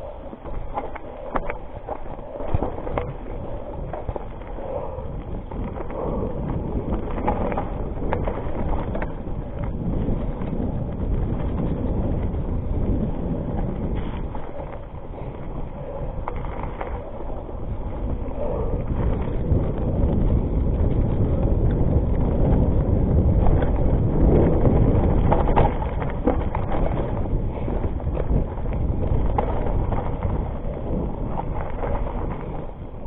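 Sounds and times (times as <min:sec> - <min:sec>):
bike knocks and rattles: 0:00.0 - 0:04.4, 0:05.2 - 0:33.0
tyres rumbling on dirt and stones: 0:00.0 - 0:33.0
wind buffeting microphone: 0:00.0 - 0:33.0.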